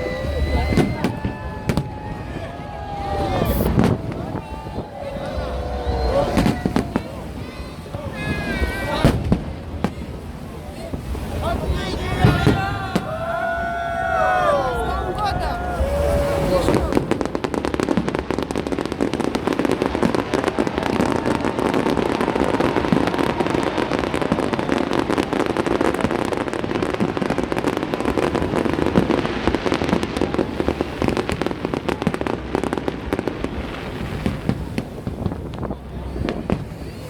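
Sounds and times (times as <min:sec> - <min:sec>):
fireworks crackling bangs: 0:00.0 - 0:37.0.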